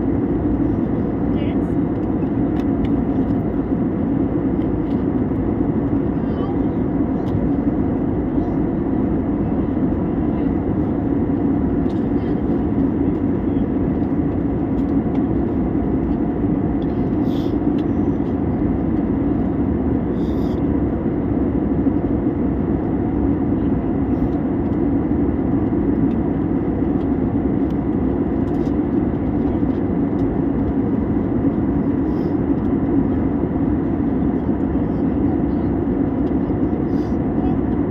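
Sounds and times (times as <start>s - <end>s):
aeroplane engines roaring: 0.0s - 37.9s.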